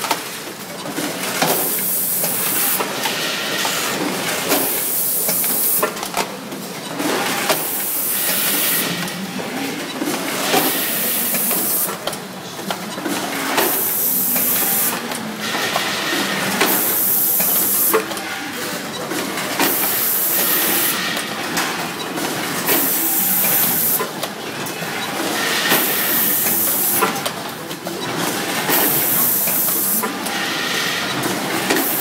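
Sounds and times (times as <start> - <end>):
machine clatter: 0.0 - 32.0.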